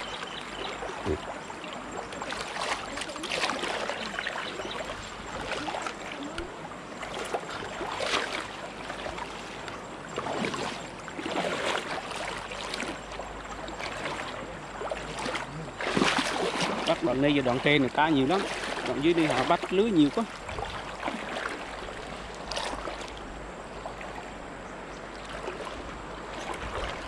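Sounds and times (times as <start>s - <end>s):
river water rushing: 0.0s - 27.0s
water splashing around wading legs: 0.0s - 27.0s.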